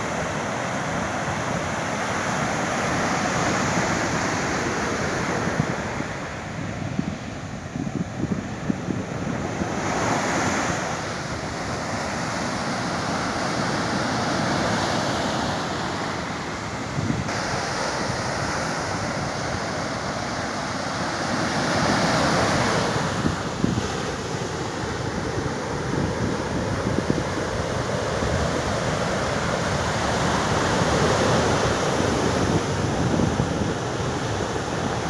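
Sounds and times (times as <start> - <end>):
ocean waves breaking: 0.0 - 35.0
wind buffeting microphone: 0.0 - 35.0.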